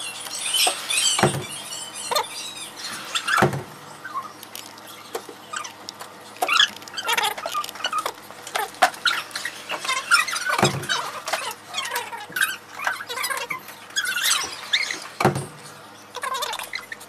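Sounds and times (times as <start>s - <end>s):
shoes squeaking: 0.3s - 17.0s.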